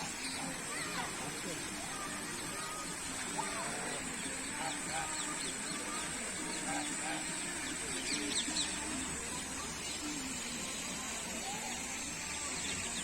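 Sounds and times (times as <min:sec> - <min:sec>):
birds chirping: 0:00.0 - 0:13.0
steady high hiss: 0:00.0 - 0:13.0.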